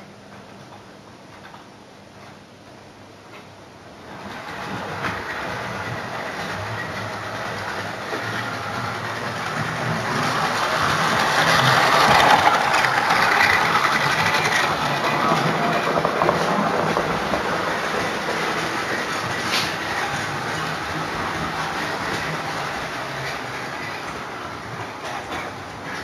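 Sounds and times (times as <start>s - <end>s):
model train running on rails: 3.3s - 26.0s.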